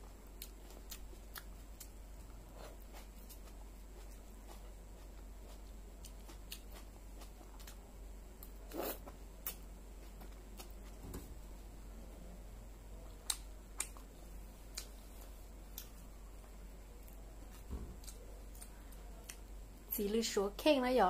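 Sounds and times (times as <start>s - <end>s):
chewing crisp vegetables: 0.0s - 11.0s, 13.0s - 19.6s.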